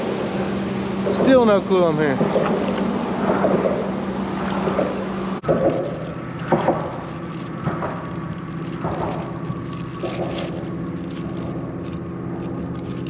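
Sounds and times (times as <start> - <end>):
motor running: 0.0 - 13.0
water splashing and lapping: 0.0 - 13.0.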